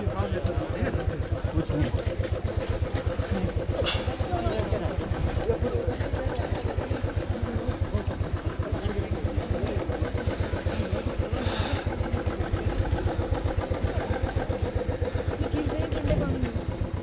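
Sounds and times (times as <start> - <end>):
motorcycle engine thumping: 0.0 - 17.0.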